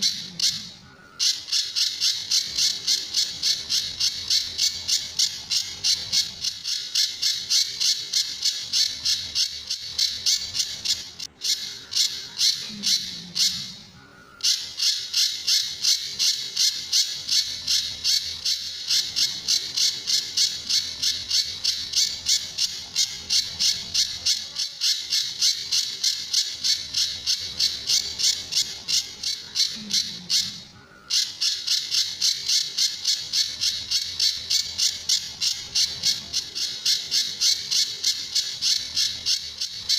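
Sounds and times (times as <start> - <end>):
bird calling sharp repeated notes: 0.0 - 39.9.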